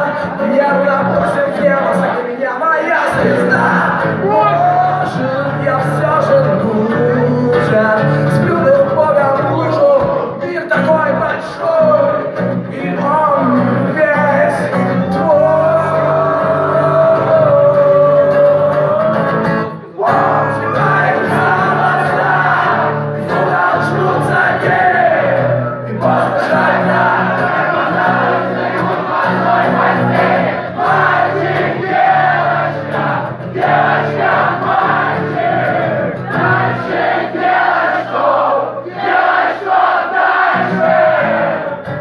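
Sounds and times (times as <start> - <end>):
audience voices: 0.0 - 42.0.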